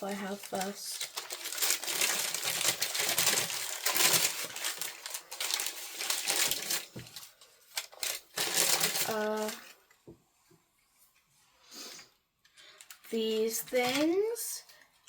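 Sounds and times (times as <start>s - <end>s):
plastic packaging crinkling: 0.0s - 10.0s, 12.7s - 15.0s.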